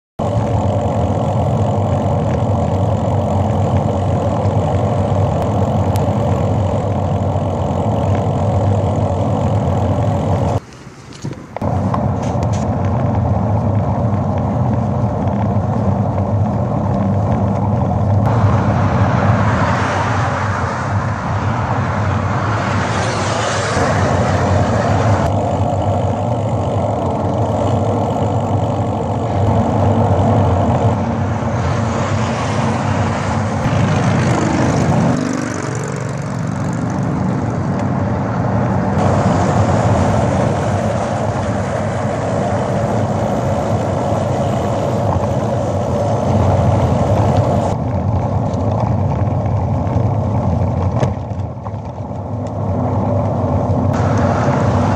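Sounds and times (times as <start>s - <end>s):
low hum: 0.2s - 10.6s, 11.5s - 54.9s
car road and engine noise: 0.2s - 54.9s.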